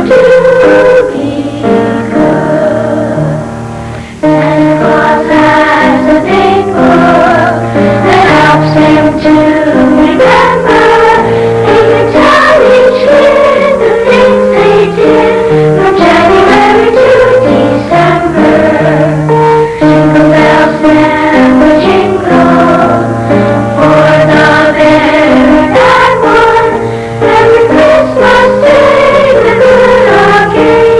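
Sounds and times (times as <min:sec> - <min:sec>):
choir singing with accompaniment: 0:00.0 - 0:30.9.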